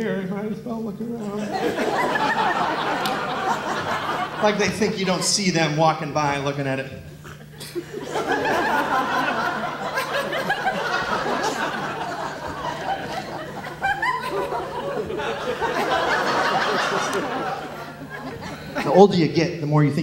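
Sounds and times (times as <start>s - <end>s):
steady low hum: 0.0s - 20.0s
audience laughing: 1.3s - 5.7s, 7.2s - 19.3s.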